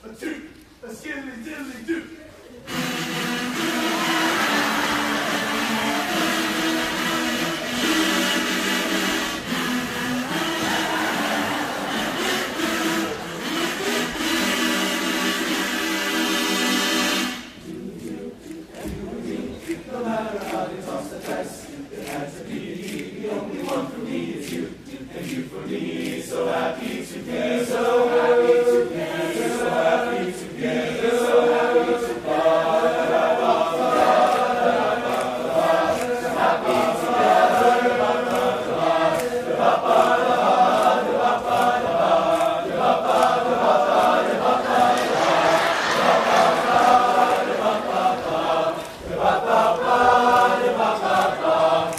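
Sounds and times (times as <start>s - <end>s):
men's choir singing: 2.7s - 51.9s.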